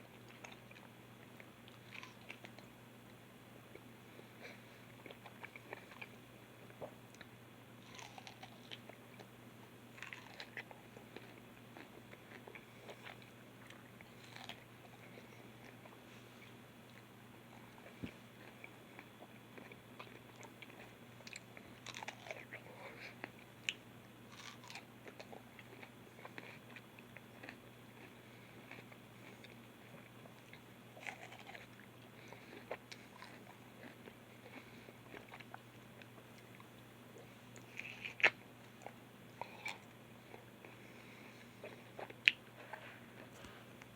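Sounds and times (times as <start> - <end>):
person chewing juicy fruit: 0.0 - 43.9.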